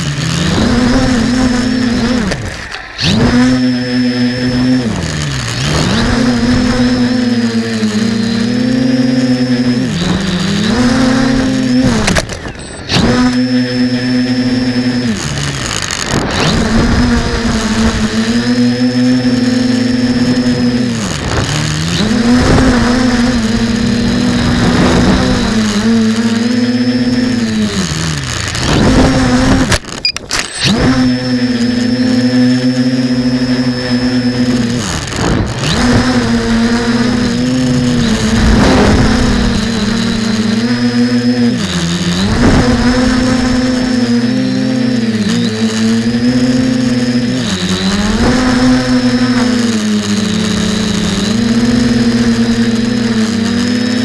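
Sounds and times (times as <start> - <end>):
quadcopter motors whining: 0.0 - 54.0.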